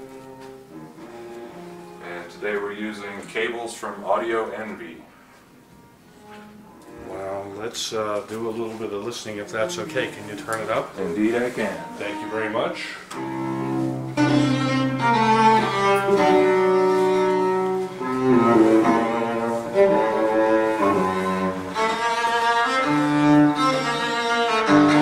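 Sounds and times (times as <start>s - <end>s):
bowed string music: 0.0s - 5.0s, 6.1s - 25.0s.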